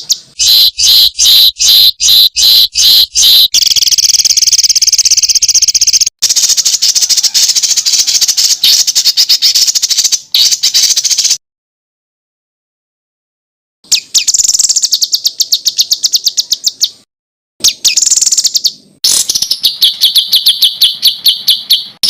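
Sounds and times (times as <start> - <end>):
songbird calling with rattling trills: 0.0 - 11.4, 13.9 - 17.0, 17.6 - 22.0.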